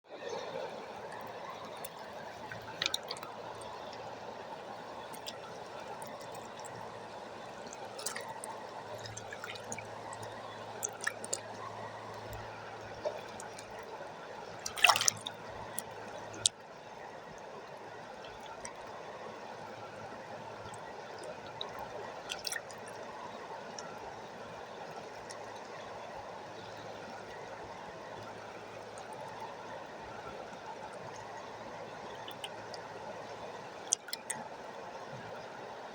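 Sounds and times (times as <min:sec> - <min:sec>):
drips and small splashes: 0:00.2 - 0:16.6, 0:17.2 - 0:35.8.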